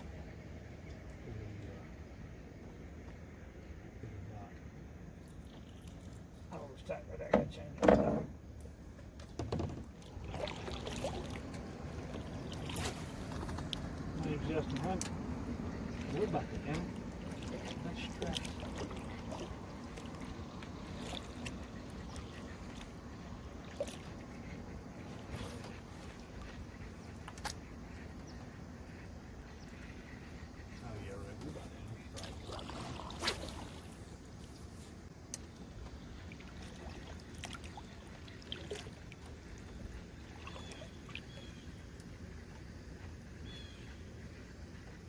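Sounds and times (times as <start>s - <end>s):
low steady rumble: 0.0s - 38.4s.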